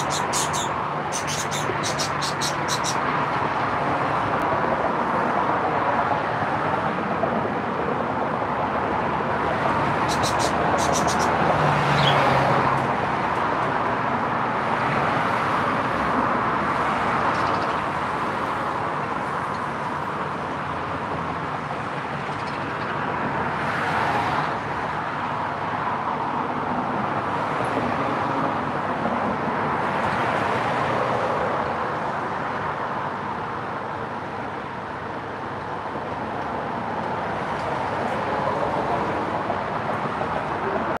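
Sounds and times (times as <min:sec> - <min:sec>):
road traffic rushing: 0:00.0 - 0:41.0.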